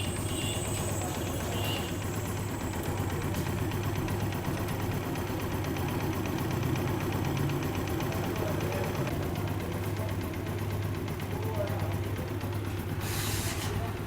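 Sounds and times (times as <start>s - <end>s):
motorcycle engine idling: 0.0s - 13.2s.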